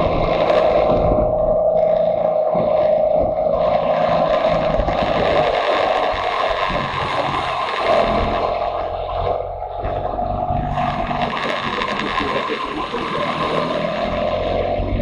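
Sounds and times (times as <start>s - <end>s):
wind rushing: 0.0s - 15.0s
motorcycle engine running: 2.9s - 15.0s.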